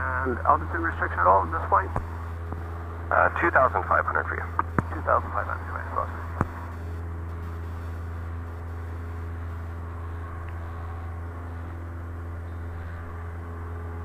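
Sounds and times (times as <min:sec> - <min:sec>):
small plane engine droning: 0:00.0 - 0:14.0.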